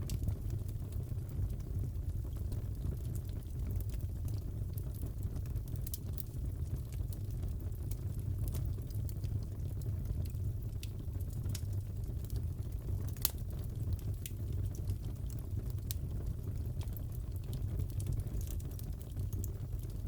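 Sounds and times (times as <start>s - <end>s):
fire popping and snapping: 0.0s - 20.0s
fireplace crackling: 0.0s - 20.0s.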